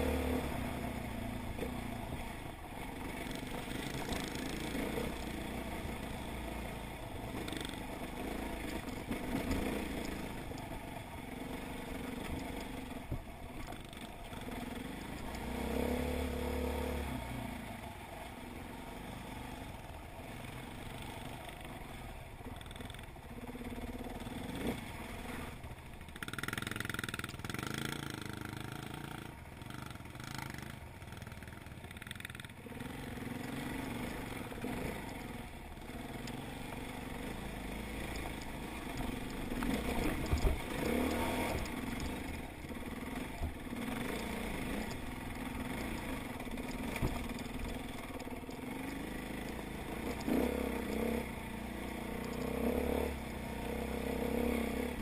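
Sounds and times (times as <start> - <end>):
dirt bike engine revving: 0.0 - 13.0, 13.7 - 17.6, 26.1 - 55.0.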